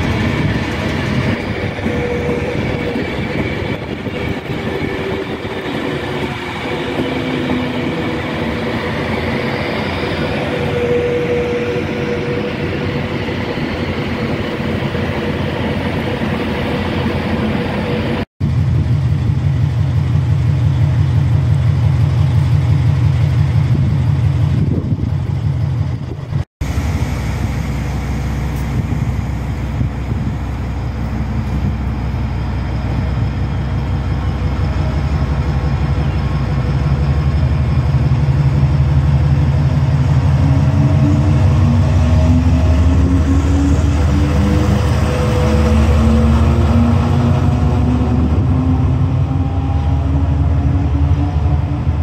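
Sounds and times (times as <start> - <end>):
diesel locomotive engine throbbing: 0.0 - 52.0.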